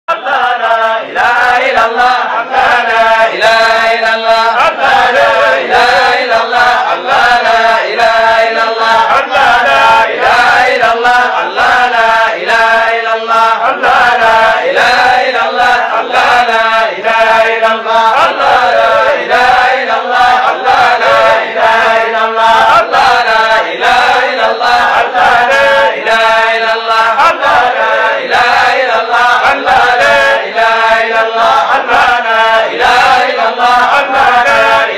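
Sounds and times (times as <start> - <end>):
men chanting together: 0.1 - 34.9.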